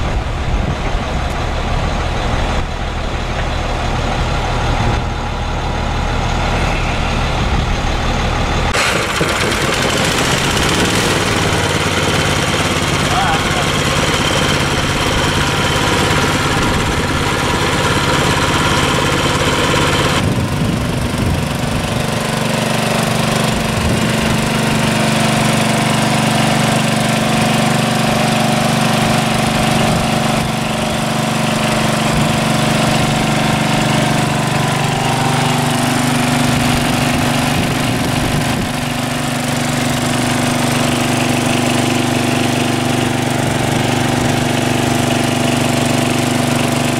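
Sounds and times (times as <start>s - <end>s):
small engine running: 1.1s - 46.9s.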